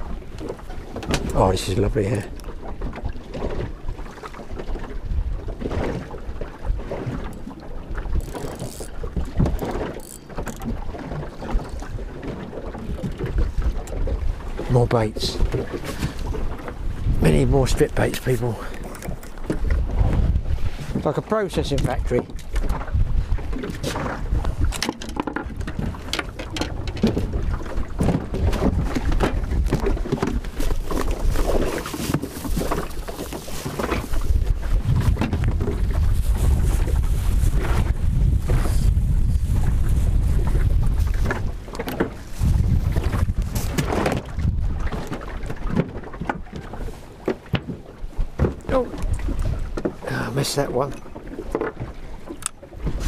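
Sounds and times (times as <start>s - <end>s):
wind buffeting microphone: 0.0s - 47.0s, 47.7s - 52.2s, 52.8s - 53.0s
water slapping against boat hull: 0.0s - 53.0s.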